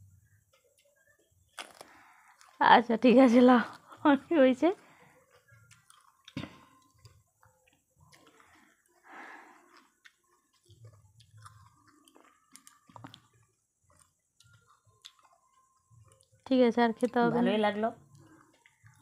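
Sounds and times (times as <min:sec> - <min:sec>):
faint chewing: 0:00.4 - 0:02.6, 0:04.8 - 0:17.3, 0:18.0 - 0:19.0.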